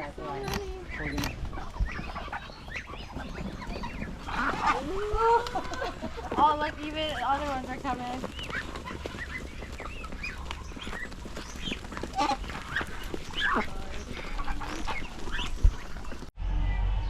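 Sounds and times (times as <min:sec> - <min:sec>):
ducks quacking: 0:00.0 - 0:16.3.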